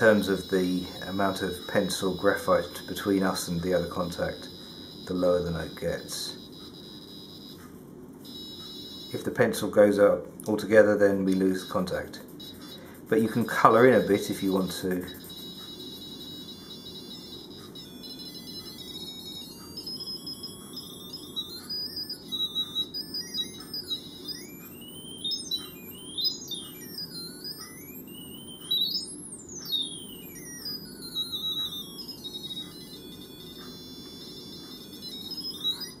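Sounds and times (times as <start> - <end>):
piezo buzzer electronic tone: 0.0 - 9.8, 11.0 - 36.0.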